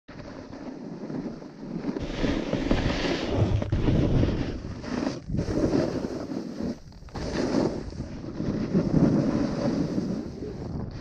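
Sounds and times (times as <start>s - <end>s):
snowboard sliding on snow: 0.1s - 11.0s
wind rushing over microphone: 2.0s - 11.0s.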